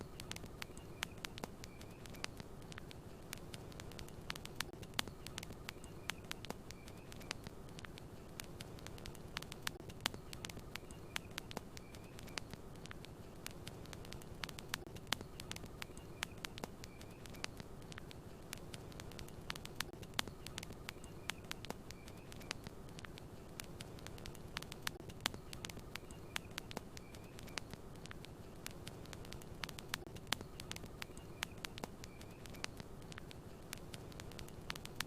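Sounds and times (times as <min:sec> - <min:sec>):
faint high chirps: 0:00.0 - 0:18.0, 0:18.6 - 0:35.0
burning wood popping and snapping: 0:00.0 - 0:35.0
low rumble of flame: 0:00.0 - 0:35.0.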